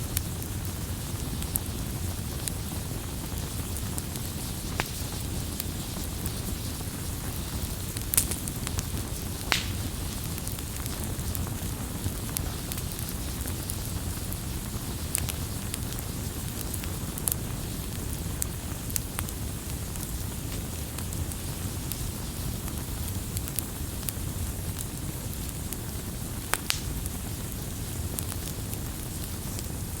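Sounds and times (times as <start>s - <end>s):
campfire rumble and hiss: 0.0s - 30.0s
fire crackling and popping: 0.0s - 30.0s.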